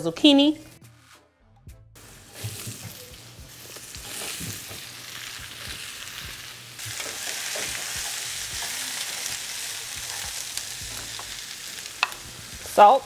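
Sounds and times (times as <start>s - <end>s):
vegetables sizzling in oil: 2.0s - 13.0s.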